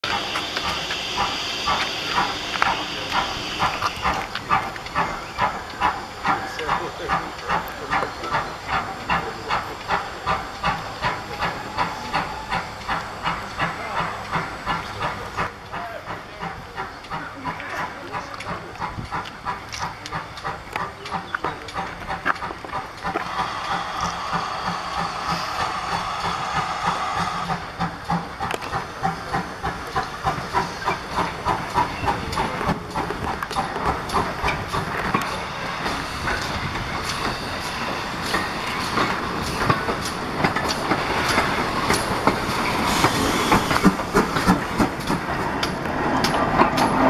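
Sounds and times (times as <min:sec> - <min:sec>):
steam hiss: 0:00.0 - 0:47.0
steam locomotive chuffing: 0:00.0 - 0:47.0.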